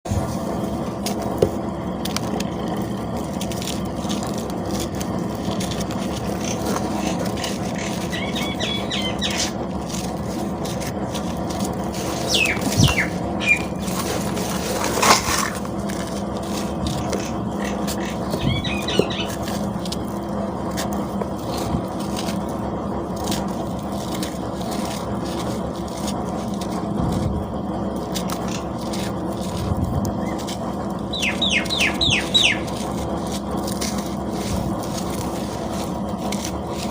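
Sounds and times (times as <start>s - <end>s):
steady background hum: 0.0s - 36.9s
cement chunks crunching: 0.1s - 36.9s.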